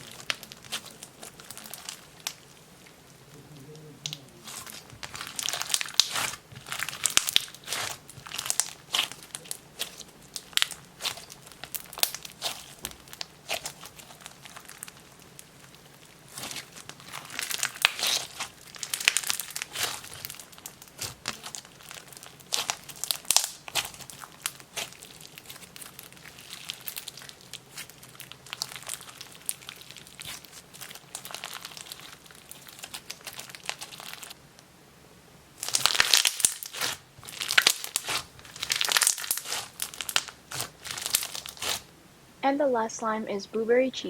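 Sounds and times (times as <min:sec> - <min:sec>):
crunchy slime being squished: 0:00.0 - 0:34.4, 0:35.6 - 0:41.9.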